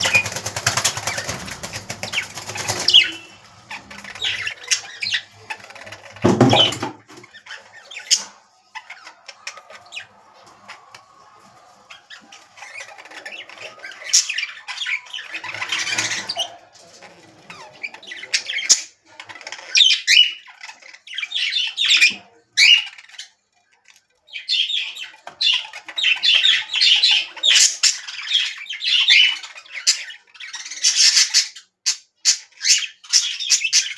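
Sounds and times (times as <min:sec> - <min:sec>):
parrots chattering and squawking: 0:00.0 - 0:33.9.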